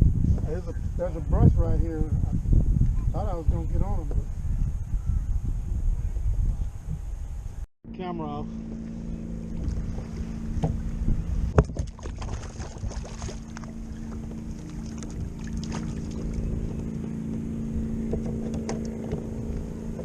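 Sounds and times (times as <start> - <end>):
wind on microphone: 0.0 - 7.7, 8.4 - 20.0
low hum: 0.0 - 20.0.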